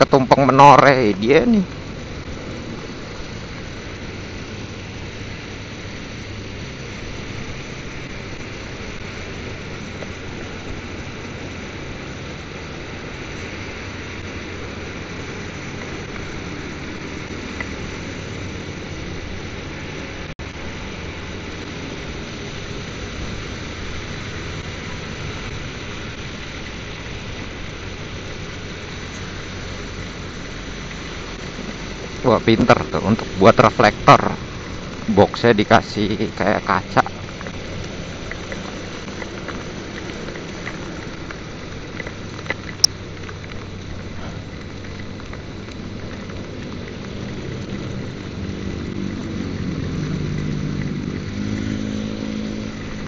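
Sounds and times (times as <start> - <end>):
wind and road noise: 0.0 - 53.0
motorcycle engine running: 1.2 - 53.0.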